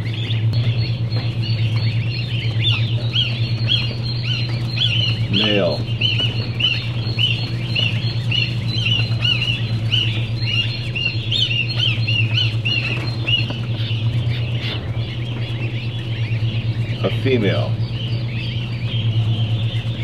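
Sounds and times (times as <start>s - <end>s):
ducklings peeping: 0.0s - 20.0s
steady low hum: 0.0s - 20.0s.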